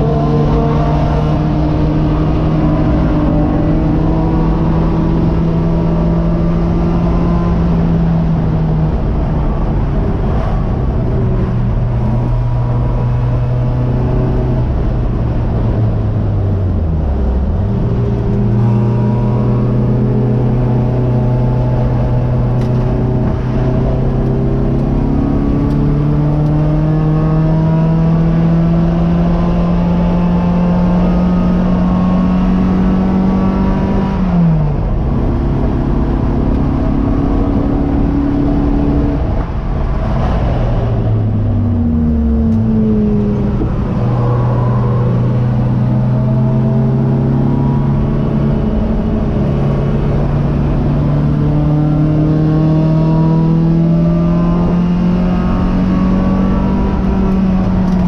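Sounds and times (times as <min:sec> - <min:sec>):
race car engine from cockpit: 0:00.0 - 0:58.0.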